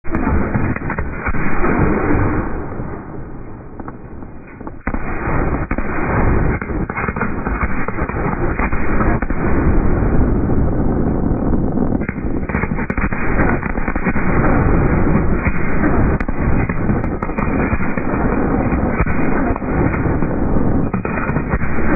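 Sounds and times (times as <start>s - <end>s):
fireworks booms and pops: 0.0s - 21.9s.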